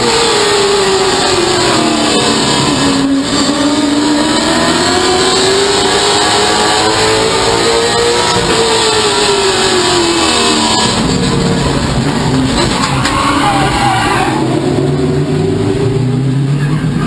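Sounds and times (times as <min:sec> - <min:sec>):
race car engine from cockpit: 0:00.0 - 0:17.0.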